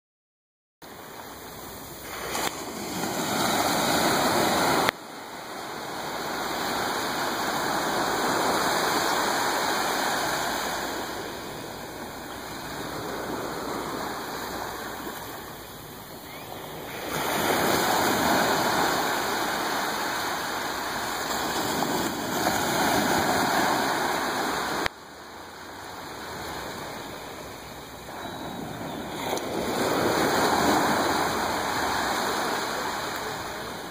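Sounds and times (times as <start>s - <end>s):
small waves washing onto sand: 0.9s - 33.9s.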